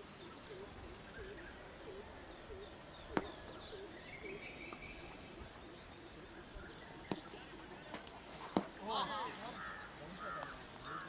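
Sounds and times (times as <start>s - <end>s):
high insect-like hiss: 0.0s - 11.0s.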